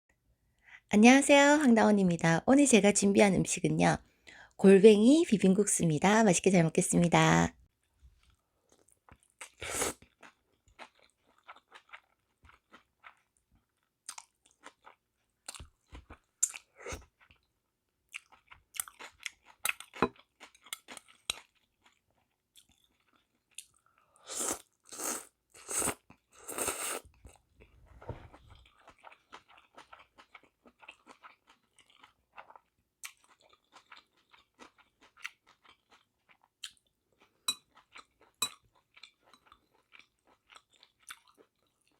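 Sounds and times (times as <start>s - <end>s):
person chewing noodles: 8.2s - 41.9s.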